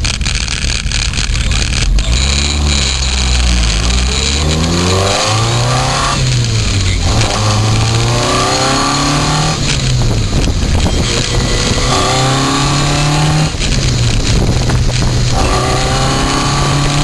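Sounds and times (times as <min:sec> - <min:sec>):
car accelerating: 0:00.0 - 0:17.0
gearbox whine: 0:00.0 - 0:17.0.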